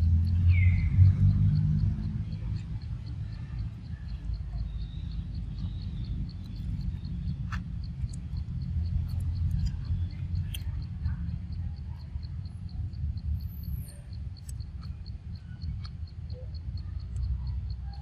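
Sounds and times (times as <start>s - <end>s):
insect chirping: 0.0s - 18.0s
sharp clicks: 1.2s - 11.6s, 12.4s - 17.3s.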